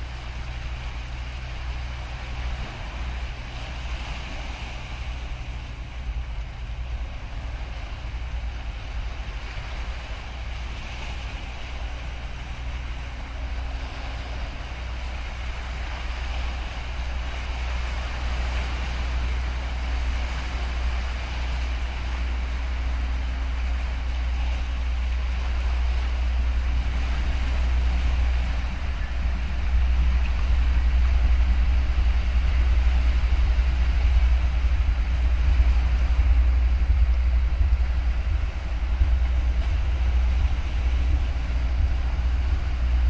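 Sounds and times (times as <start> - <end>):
ship engine drone: 0.0 - 43.0.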